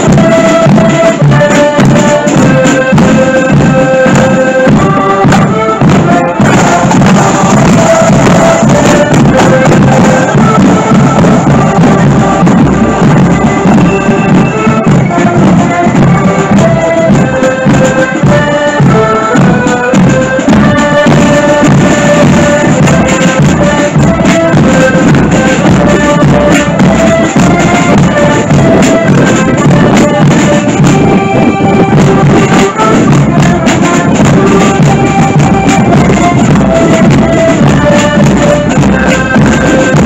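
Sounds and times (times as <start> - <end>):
accordions playing march melody: 0.0 - 40.0
drum beat: 0.0 - 40.0.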